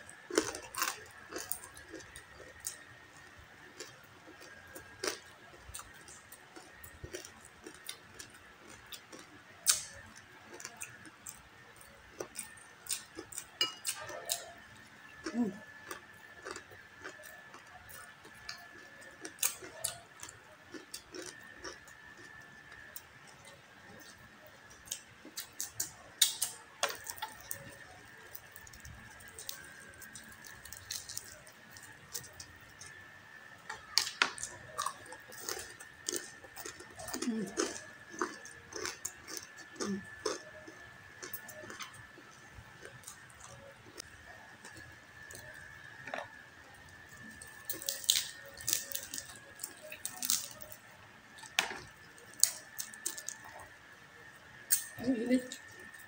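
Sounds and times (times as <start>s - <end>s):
faint high whine: 0.0s - 56.0s
chewing crispy skin: 0.1s - 56.0s.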